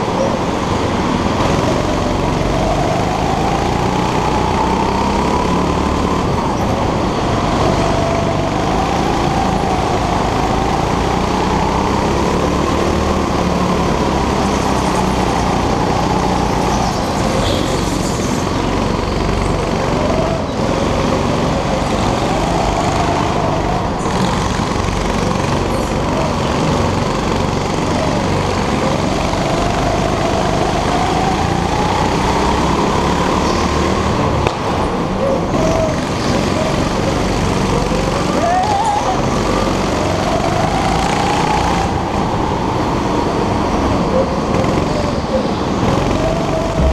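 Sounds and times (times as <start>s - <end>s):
go-kart engine revving: 0.0s - 46.9s.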